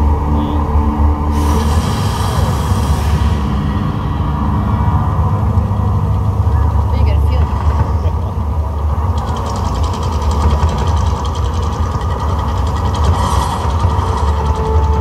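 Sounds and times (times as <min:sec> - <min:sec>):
deep continuous rumble: 0:00.0 - 0:15.0
rattling hiss of fire plumes: 0:01.3 - 0:14.6.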